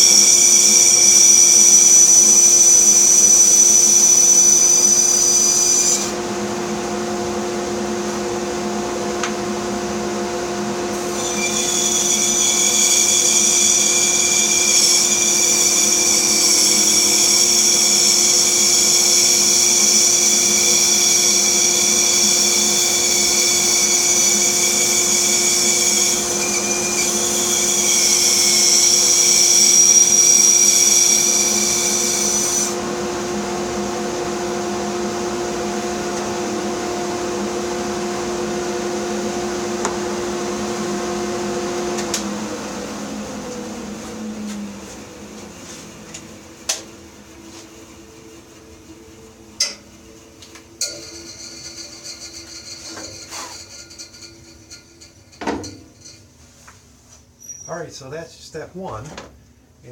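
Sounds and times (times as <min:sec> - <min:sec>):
bandsaw motor hum: 0:00.0 - 0:56.2
saw blade whine cutting wood: 0:00.0 - 0:56.2.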